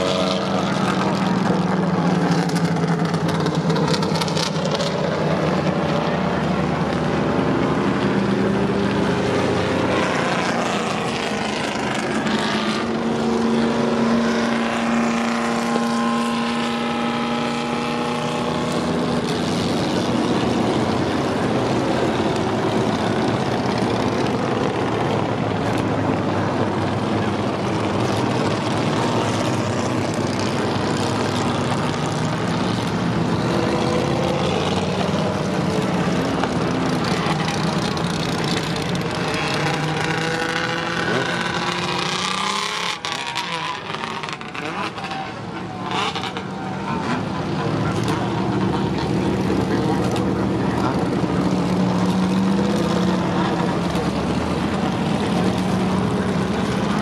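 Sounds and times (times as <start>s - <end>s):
many car engines droning: 0.0s - 57.0s.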